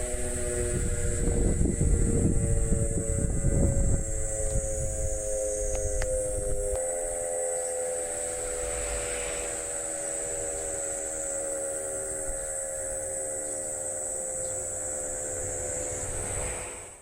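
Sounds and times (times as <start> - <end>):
electric motor siren wail: 0.0 - 17.0
steady high hiss: 0.0 - 17.0.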